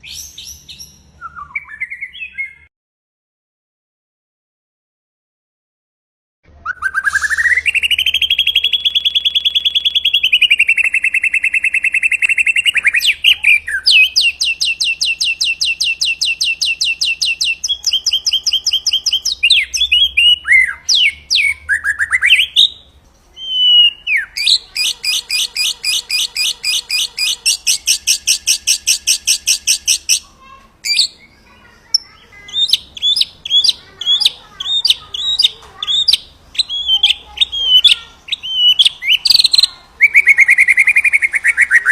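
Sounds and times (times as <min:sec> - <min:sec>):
bird singing rapid trills: 0:06.7 - 0:41.9.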